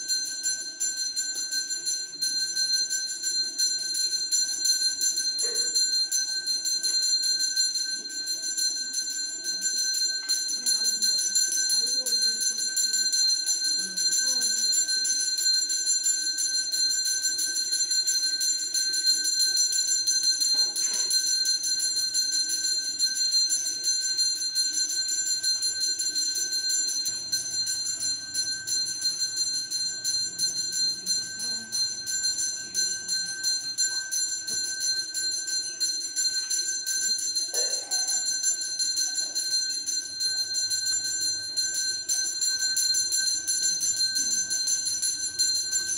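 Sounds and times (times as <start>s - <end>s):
bell rung rapidly: 0.0s - 45.9s.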